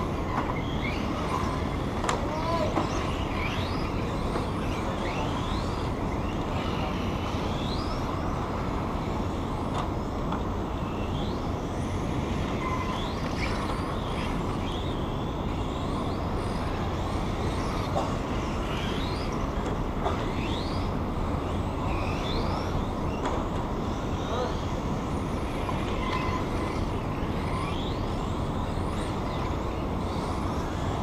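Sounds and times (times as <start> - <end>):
electric motors whining: 0.0 - 31.0
steady rushing background noise: 0.0 - 31.0.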